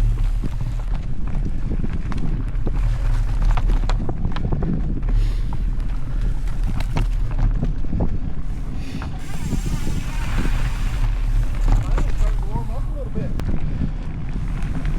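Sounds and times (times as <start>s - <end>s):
bike clicks and rattles: 0.0s - 14.9s
bike tyre noise: 0.0s - 14.9s
wind rumble on microphone: 0.0s - 14.9s.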